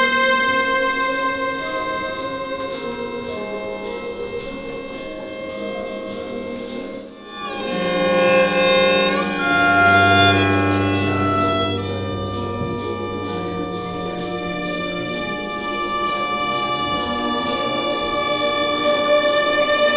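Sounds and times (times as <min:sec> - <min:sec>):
string quartet held chords: 0:00.0 - 0:19.9.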